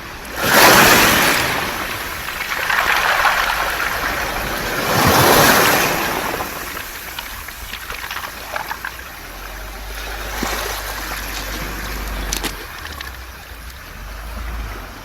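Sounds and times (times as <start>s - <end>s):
wave washing onto pebble beach: 0.0s - 14.9s.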